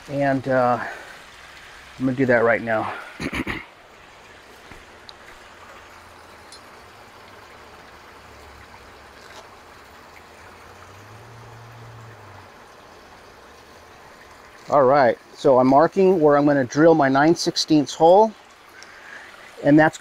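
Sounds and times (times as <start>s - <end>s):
water running and trickling: 0.0s - 20.0s.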